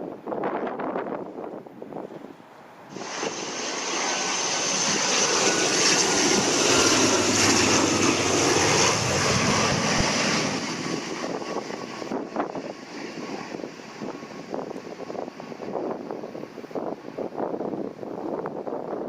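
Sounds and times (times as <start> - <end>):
airliner engines passing: 0.4 - 19.0.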